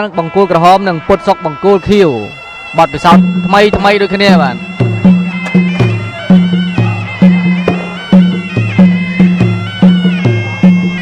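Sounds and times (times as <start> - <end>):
reed oboe melody: 0.0 - 11.0
drums beating steady rhythm: 0.1 - 11.0.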